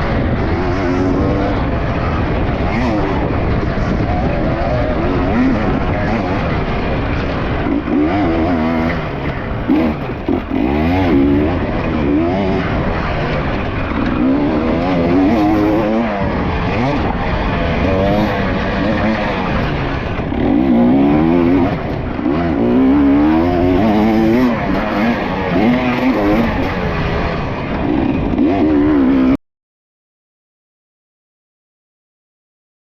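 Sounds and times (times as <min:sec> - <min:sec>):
dirt bike engine revving: 0:00.0 - 0:29.4.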